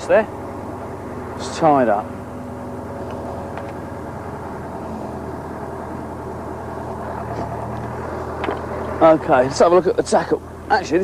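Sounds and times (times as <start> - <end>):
crane engine droning: 0.0 - 11.0.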